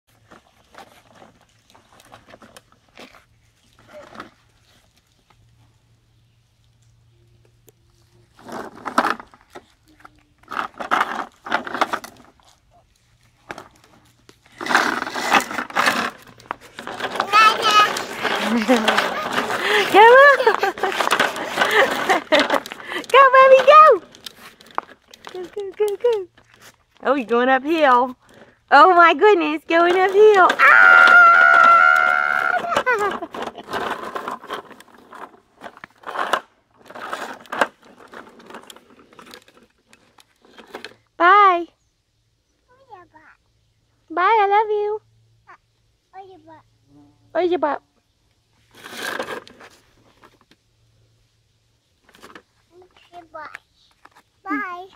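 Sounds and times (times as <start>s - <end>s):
plastic wheels scraping over asphalt: 0.1s - 41.1s, 48.6s - 50.6s, 51.9s - 54.9s.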